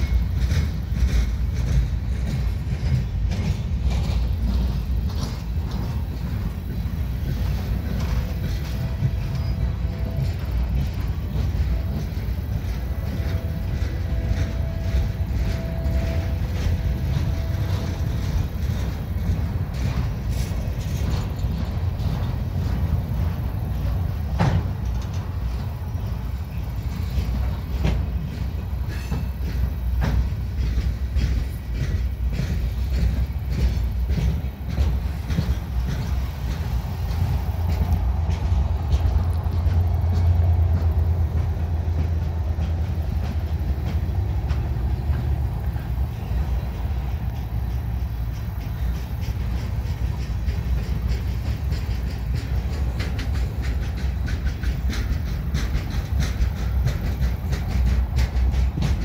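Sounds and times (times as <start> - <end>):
railroad cars rumbling past: 0.0 - 59.0
wheel clicks and clanks: 0.0 - 59.0.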